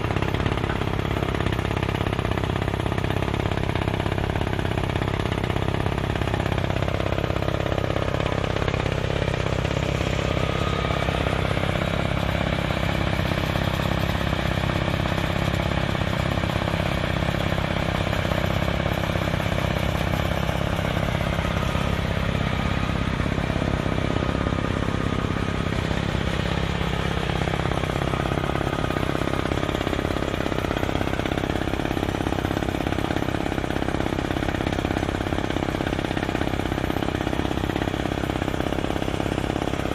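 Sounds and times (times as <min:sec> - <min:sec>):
drilling rig mechanical drone: 0:00.0 - 0:39.9.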